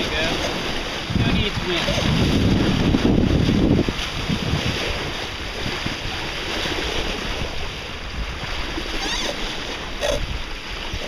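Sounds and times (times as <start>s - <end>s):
waves slapping and rushing: 0.0s - 11.0s
wind noise on microphone: 0.0s - 11.0s.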